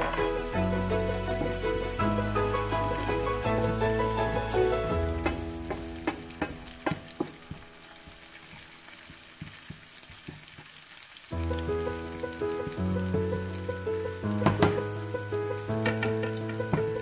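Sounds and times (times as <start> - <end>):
onion sizzling in frying pan: 0.0 - 17.0.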